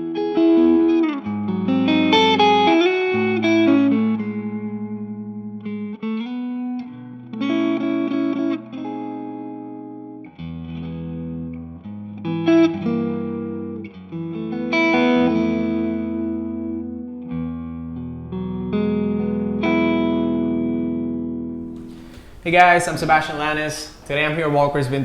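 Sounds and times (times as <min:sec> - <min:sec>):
electric guitar chords: 0:00.0 - 0:22.4.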